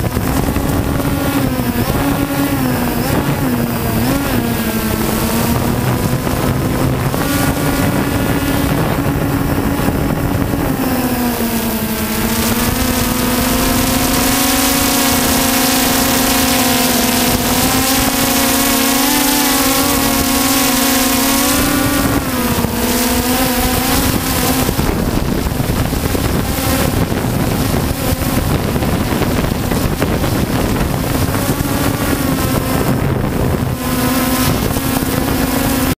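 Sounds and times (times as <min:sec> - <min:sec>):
drone propellers humming: 0:00.0 - 0:36.0
wind on microphone: 0:00.0 - 0:36.0.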